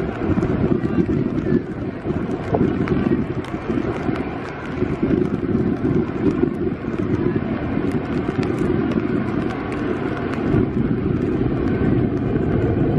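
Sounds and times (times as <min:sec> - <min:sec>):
jet engines rumbling: 0:00.0 - 0:12.9
rain ticking on umbrella: 0:00.0 - 0:12.9.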